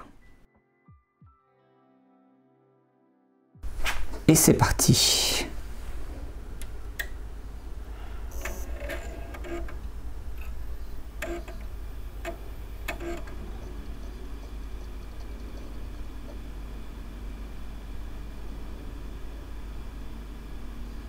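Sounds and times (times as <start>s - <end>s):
steady low hum: 3.6s - 21.0s.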